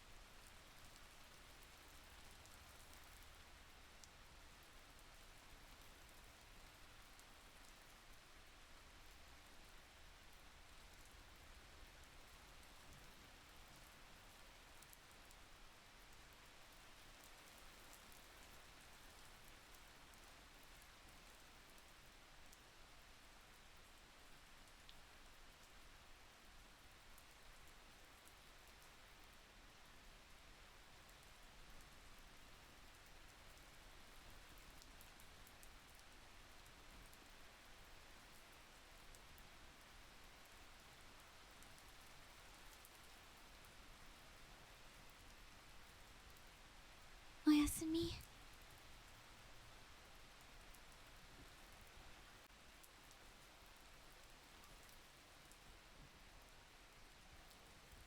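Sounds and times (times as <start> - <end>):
faint rain hiss: 0.0 - 58.0
light raindrop ticks: 0.1 - 47.4, 48.2 - 58.0.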